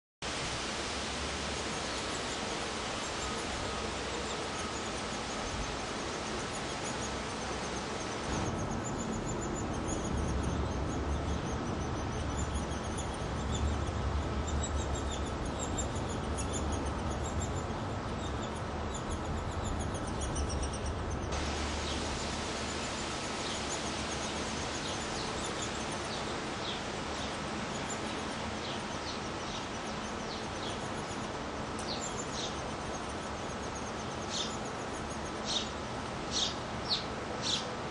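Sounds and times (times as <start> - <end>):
steady outdoor hiss: 0.2 - 37.9.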